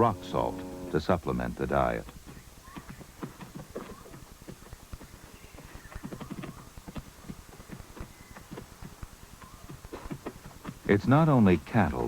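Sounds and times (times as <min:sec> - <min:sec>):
cattle hooves knocking on hard ground: 0:00.0 - 0:12.0.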